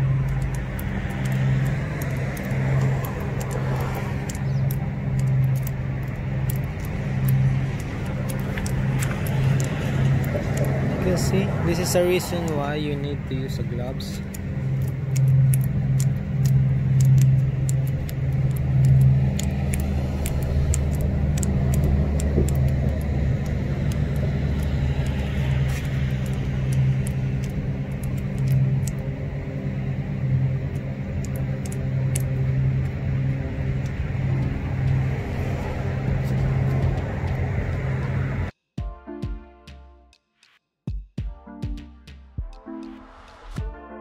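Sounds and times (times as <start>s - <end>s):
vehicle engine idling: 0.0s - 38.5s.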